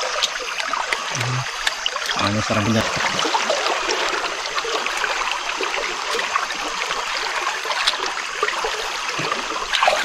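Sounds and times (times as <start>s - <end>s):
clicks and splashes in a boat: 0.0s - 10.0s
flowing river water: 0.0s - 10.0s.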